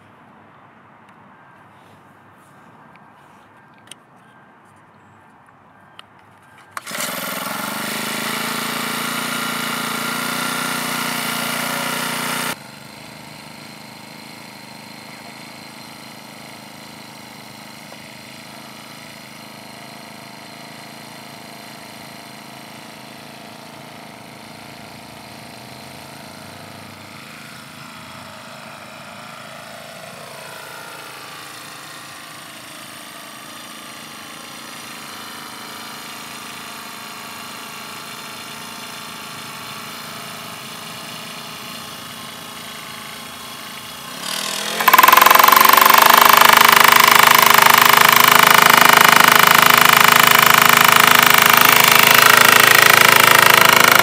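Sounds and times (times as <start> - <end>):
four-stroke engine running: 6.6 - 54.0.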